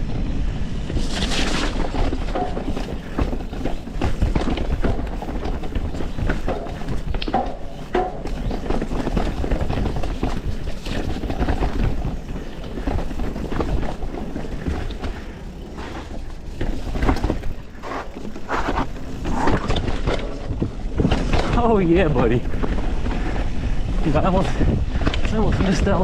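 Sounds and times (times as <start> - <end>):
wind rumble on microphone: 0.0 - 26.0
bike tyres clattering over rocks: 0.8 - 26.0
bike frame rattling: 0.9 - 26.0.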